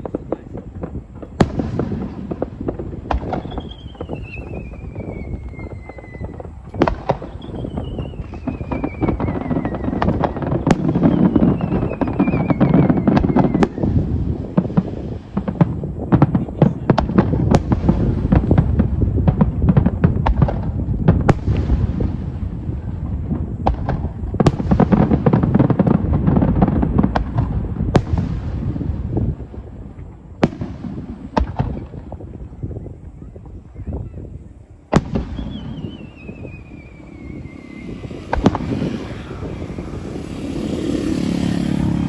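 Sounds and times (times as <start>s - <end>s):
continuous rumble: 0.0s - 42.0s
falling firework whistles: 0.0s - 42.0s
firework bangs and crackling: 0.0s - 42.0s.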